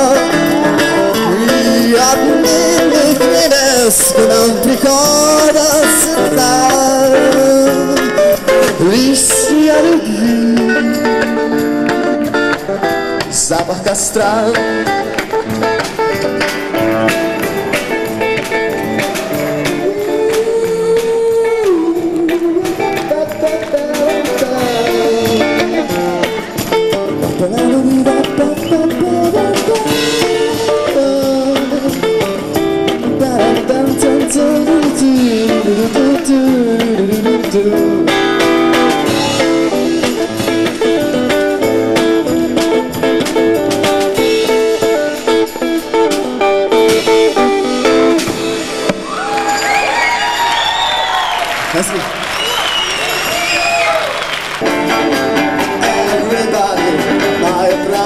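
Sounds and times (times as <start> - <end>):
lead guitar bending notes: 0.0 - 49.2, 54.6 - 58.0
strummed guitar chords: 0.0 - 49.3, 54.6 - 58.0
drums: 0.0 - 58.0.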